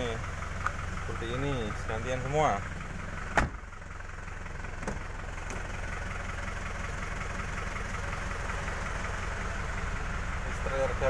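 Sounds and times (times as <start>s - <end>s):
diesel engine idling with clatter: 0.0s - 11.0s.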